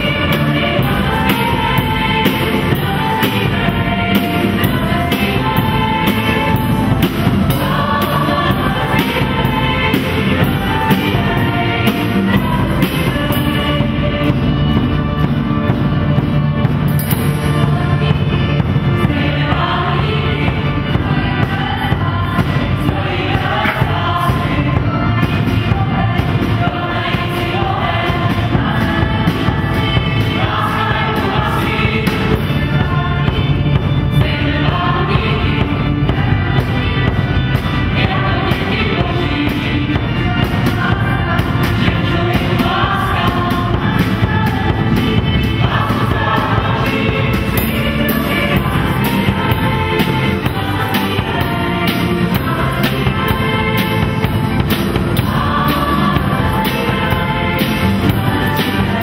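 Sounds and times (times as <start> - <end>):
choir singing: 0.0 - 59.0
drum kit beat: 0.0 - 59.0
keyboard: 0.0 - 59.0.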